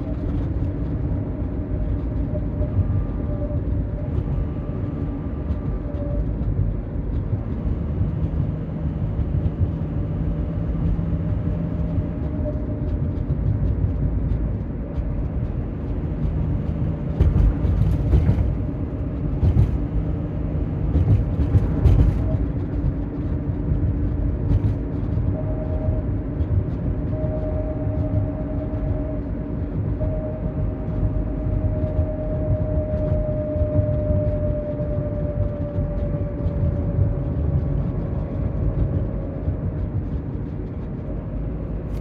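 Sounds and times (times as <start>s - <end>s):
faint drivetrain whine: 0.0s - 42.0s
road rumble: 0.0s - 42.0s.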